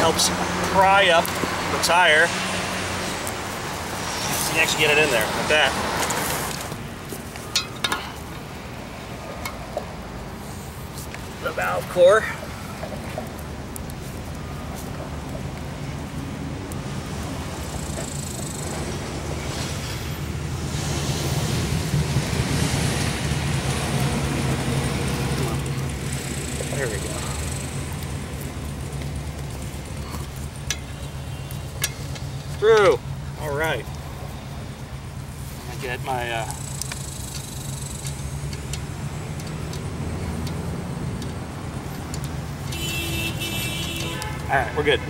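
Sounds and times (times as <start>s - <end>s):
low rumble of road traffic: 0.0s - 45.0s
passing vehicles rushing: 0.0s - 45.0s.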